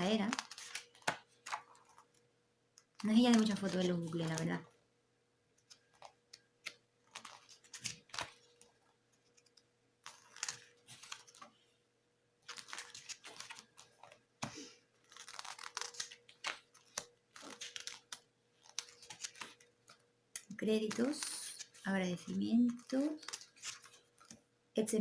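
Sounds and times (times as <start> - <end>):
booklet pages turning: 0.0 - 2.2, 2.8 - 4.7, 5.6 - 11.7, 12.4 - 24.4.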